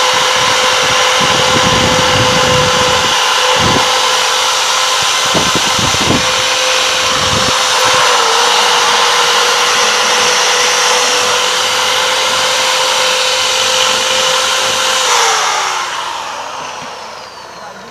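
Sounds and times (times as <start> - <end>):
electric drill grinding metal: 0.0 - 17.9.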